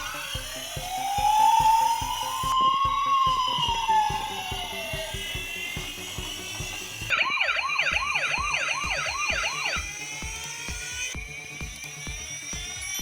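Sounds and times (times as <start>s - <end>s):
electronic siren yelping: 0.0s - 13.0s
music with steady beat: 0.0s - 13.0s.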